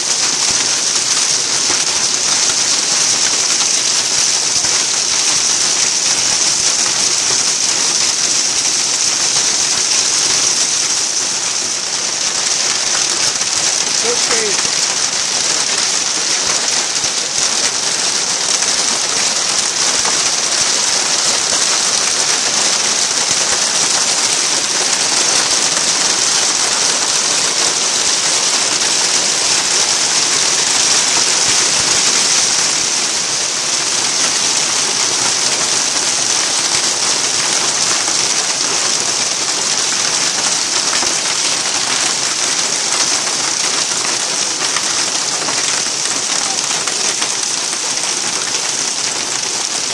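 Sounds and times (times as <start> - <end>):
heavy rain hiss: 0.0 - 49.9.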